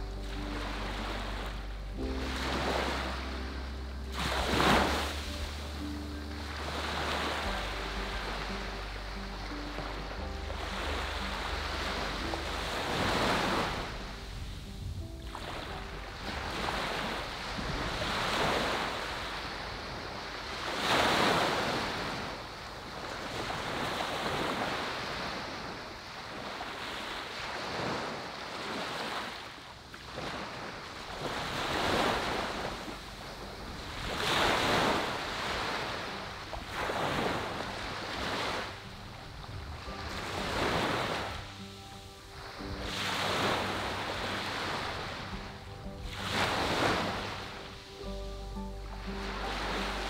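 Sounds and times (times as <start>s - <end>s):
small waves breaking on beach: 0.0s - 50.0s.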